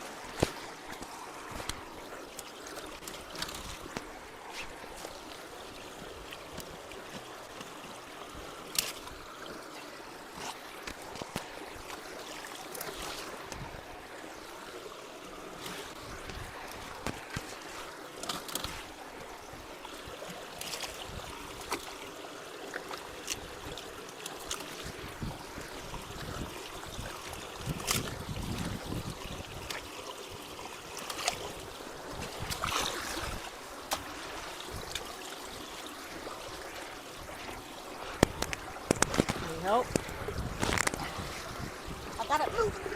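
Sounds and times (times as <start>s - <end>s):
creek water running: 0.0s - 42.9s.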